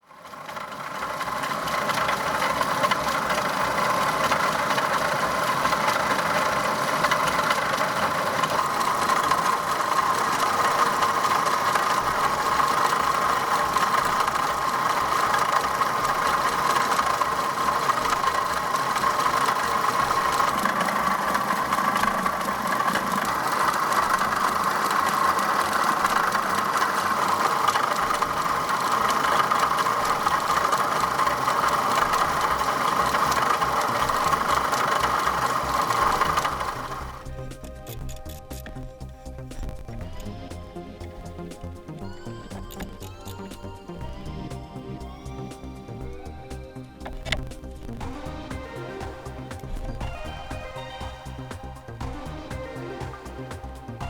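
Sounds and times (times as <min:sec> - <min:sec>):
car engine idling: 0:00.0 - 0:54.0
water pump noise: 0:00.0 - 0:54.0.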